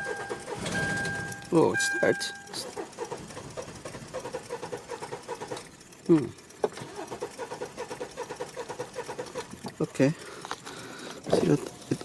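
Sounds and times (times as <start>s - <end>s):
car engine cranking: 0.0s - 12.0s.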